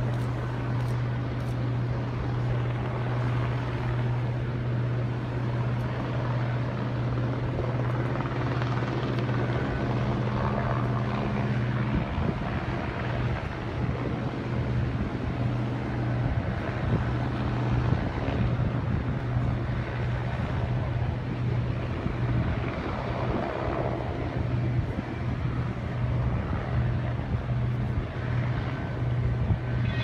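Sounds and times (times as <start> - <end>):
helicopter drone: 0.0 - 30.0.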